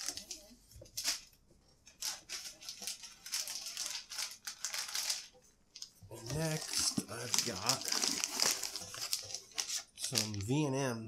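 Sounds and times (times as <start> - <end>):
plastic packaging rustling: 0.0 - 10.7.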